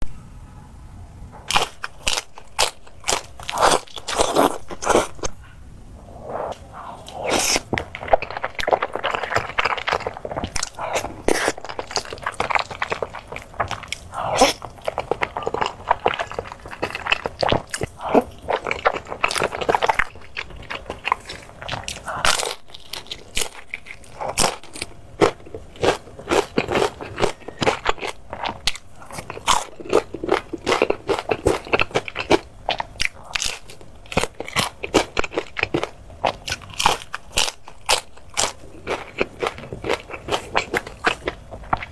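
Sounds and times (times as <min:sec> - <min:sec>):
chewing crunchy food: 0:01.4 - 0:05.4, 0:06.4 - 0:41.9.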